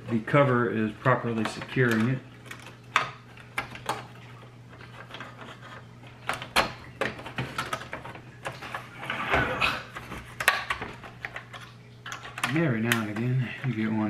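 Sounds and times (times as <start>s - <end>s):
plastic cover scraping: 0.0s - 14.0s
plastic clicks and knocks: 0.4s - 8.8s, 9.9s - 13.8s.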